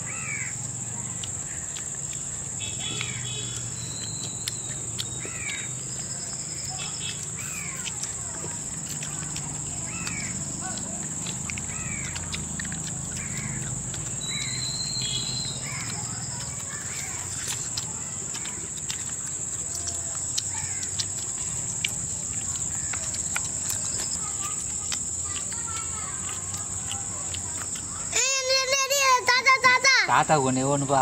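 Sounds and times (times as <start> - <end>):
people chewing chicken: 0.0 - 30.9
insects droning: 0.0 - 31.0.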